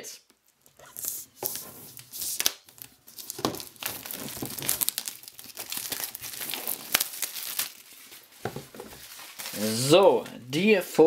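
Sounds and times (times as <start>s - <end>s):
plastic film tearing and crinkling: 1.0s - 10.0s.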